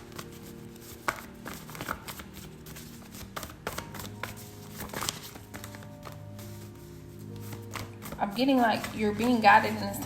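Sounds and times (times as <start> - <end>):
cards being shuffled: 0.0 - 9.9
quiet background music: 0.0 - 10.0.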